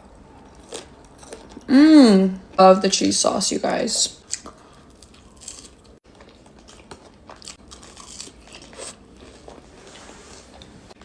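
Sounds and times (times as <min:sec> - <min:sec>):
person eating and crunching: 0:00.0 - 0:02.6, 0:04.1 - 0:10.7.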